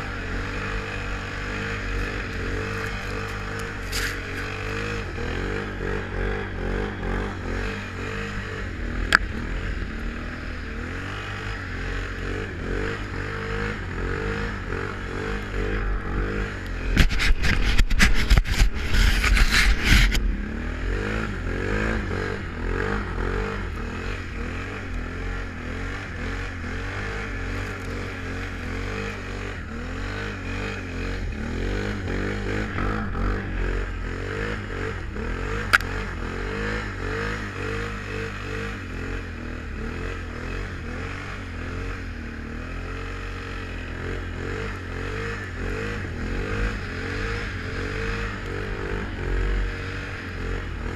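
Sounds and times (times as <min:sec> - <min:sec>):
atv engine running: 0:00.0 - 0:50.9
loud rough noise: 0:00.0 - 0:50.9.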